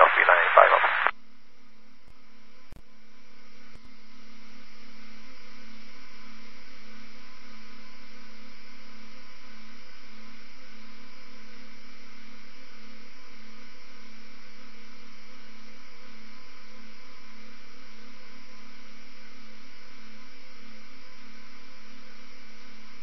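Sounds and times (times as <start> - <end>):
electrical hum with hiss: 0.0 - 23.0.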